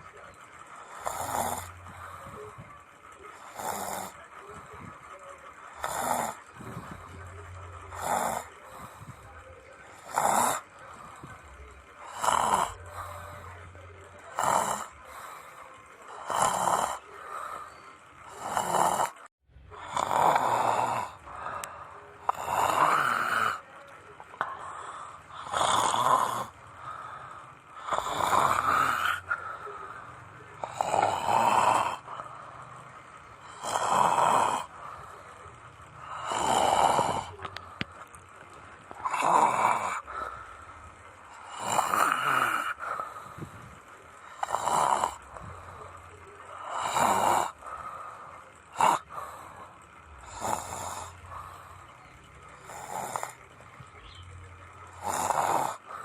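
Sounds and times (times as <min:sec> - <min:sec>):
person snoring: 0:00.8 - 0:04.8, 0:05.7 - 0:23.7, 0:24.3 - 0:38.1, 0:38.9 - 0:52.0, 0:52.6 - 0:53.4, 0:54.9 - 0:56.0.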